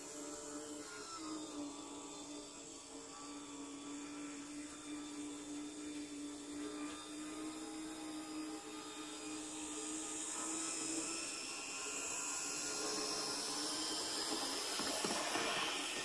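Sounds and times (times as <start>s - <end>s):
model train motor whining: 0.0s - 16.0s.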